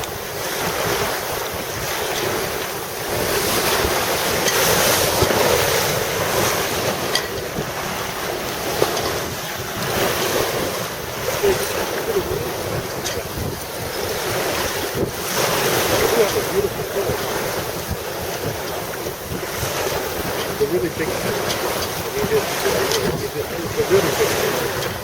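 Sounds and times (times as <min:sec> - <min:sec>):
water splashing along hull: 0:00.0 - 0:25.0
wind buffeting microphone: 0:00.0 - 0:25.0.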